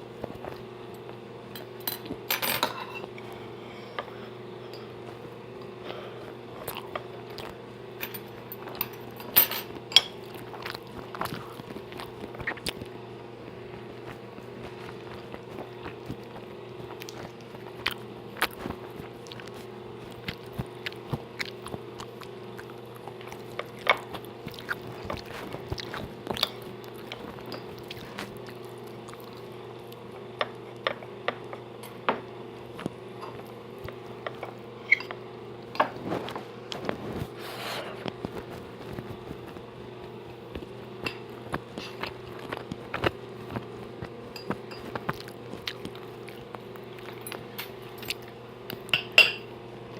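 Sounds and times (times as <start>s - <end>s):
food crunching and chewing: 0.0s - 2.3s, 4.0s - 49.9s
steady low hum: 0.0s - 49.9s.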